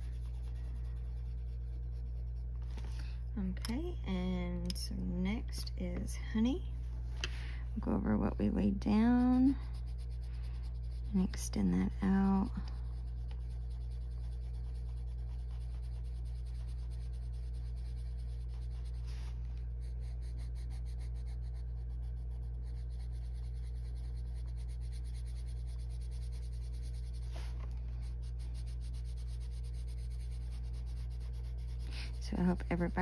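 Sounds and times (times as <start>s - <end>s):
colored pencil scratching paper: 0.0s - 2.9s, 7.8s - 33.0s
steady low hum: 0.0s - 33.0s.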